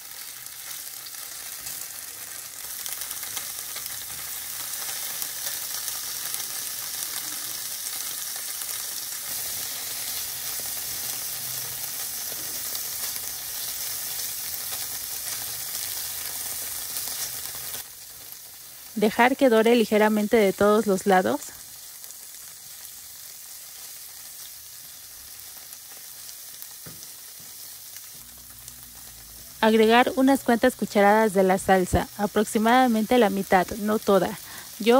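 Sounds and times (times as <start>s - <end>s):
tofu sizzling in a pan: 0.0s - 34.9s.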